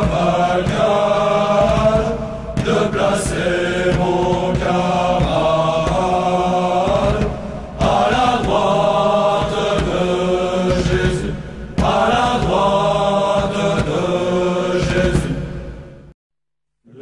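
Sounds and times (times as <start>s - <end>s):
chanted vocal long notes: 0.0s - 16.0s.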